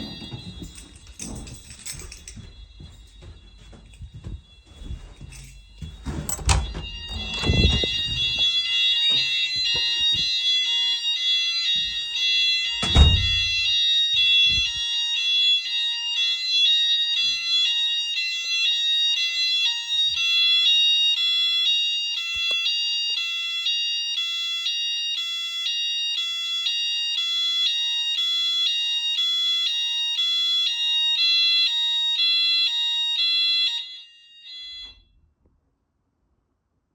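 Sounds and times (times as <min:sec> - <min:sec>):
two-tone fire alarm: 0:00.0 - 0:35.2.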